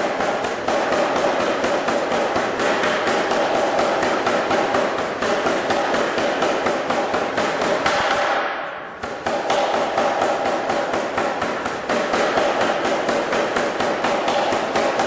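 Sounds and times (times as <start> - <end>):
air hammer striking steel: 0.0 - 15.0.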